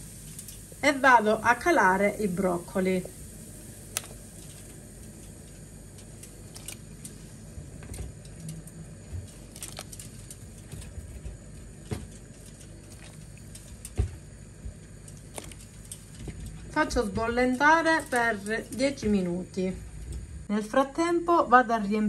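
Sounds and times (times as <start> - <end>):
water boiling in a pot: 0.0 - 20.4.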